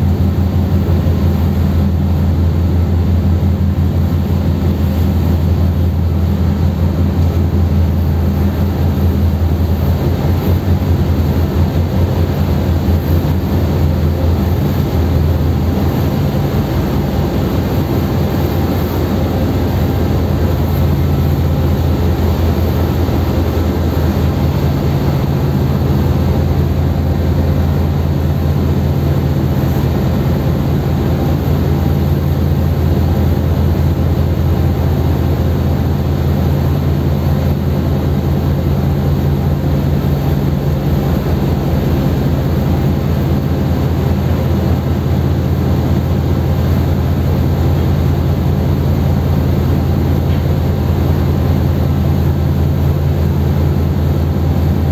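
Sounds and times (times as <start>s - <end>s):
rushing wind and water: 0.0s - 54.9s
ship engines droning: 0.0s - 54.9s.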